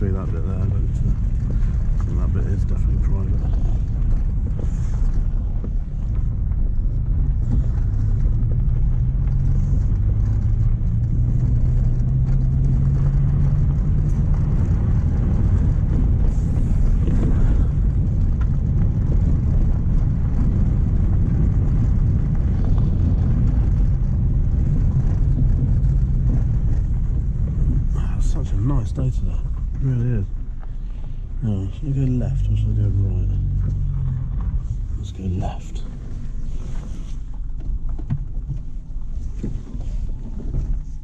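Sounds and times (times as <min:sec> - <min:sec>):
car engine: 0:00.0 - 0:41.0
road rumble inside car: 0:00.0 - 0:41.0.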